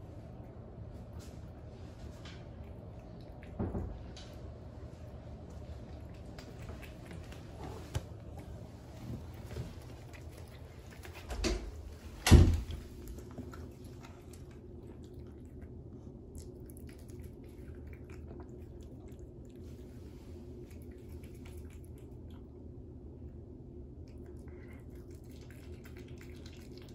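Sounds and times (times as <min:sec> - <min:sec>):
low hum: 0:00.0 - 0:26.9
cat chewing wet clicks: 0:00.2 - 0:11.4, 0:12.7 - 0:20.0, 0:20.6 - 0:22.8, 0:24.0 - 0:26.9.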